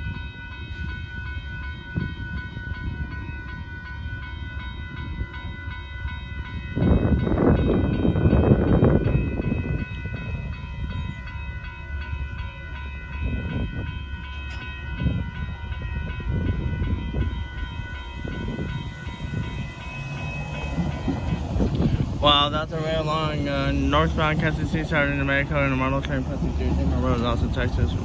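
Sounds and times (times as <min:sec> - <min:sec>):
freight train rumble: 0:00.0 - 0:28.0
railroad crossing bells ringing: 0:00.0 - 0:28.0.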